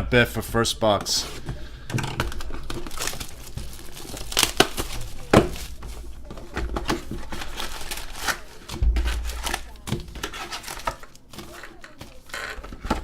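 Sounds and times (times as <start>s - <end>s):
plastic wrapping crinkling and tearing: 1.2s - 13.0s.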